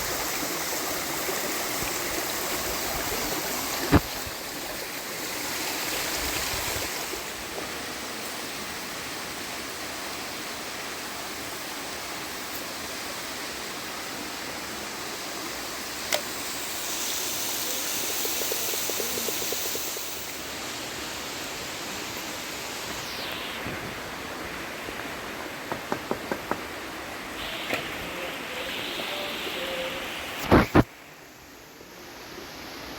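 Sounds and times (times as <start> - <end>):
flowing water: 0.0 - 25.8, 26.6 - 31.2.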